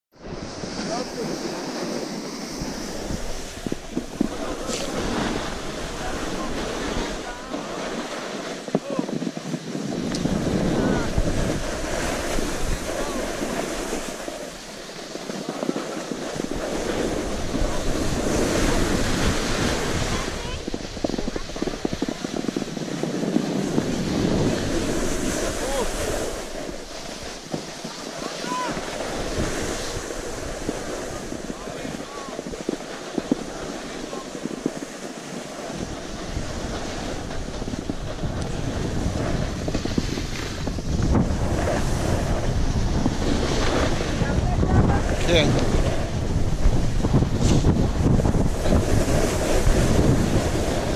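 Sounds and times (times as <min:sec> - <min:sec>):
wind rumbling on microphone: 0:00.1 - 0:50.9
snowboards scraping over snow: 0:00.2 - 0:50.9.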